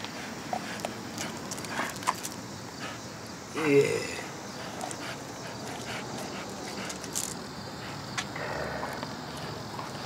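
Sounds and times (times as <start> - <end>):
dogs chewing and tugging meat: 0.0 - 3.0, 4.5 - 10.0.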